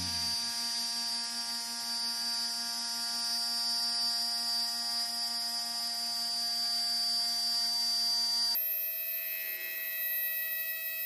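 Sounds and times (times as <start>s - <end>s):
router spindle whine: 0.0s - 10.7s.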